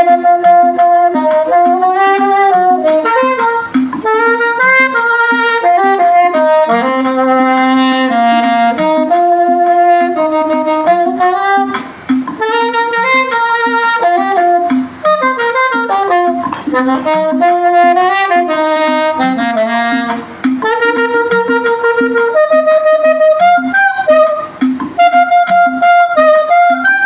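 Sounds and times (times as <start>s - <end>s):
saxophone playing hymn melody: 0.0s - 27.0s.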